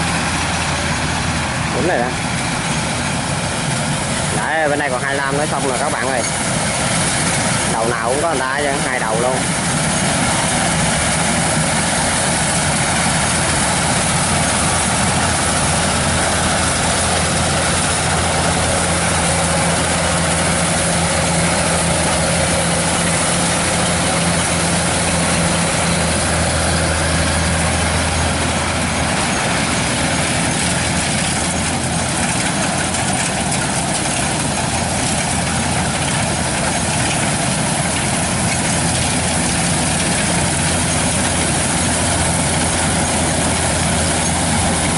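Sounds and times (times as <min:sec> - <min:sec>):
combine harvester engine drone: 0:00.0 - 0:44.9
machinery noise: 0:00.0 - 0:44.9.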